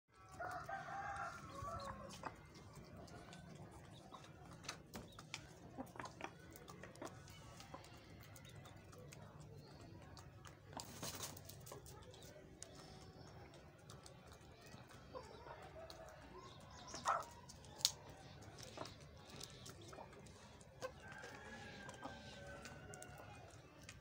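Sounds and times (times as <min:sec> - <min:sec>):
beaks pecking on concrete: 0:00.1 - 0:24.0
chickens clucking: 0:00.1 - 0:24.0.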